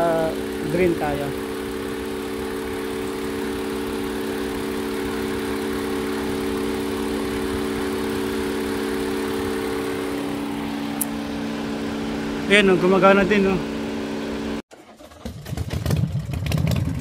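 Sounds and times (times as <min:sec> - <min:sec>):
car engine idling with misfire: 0:00.0 - 0:17.0.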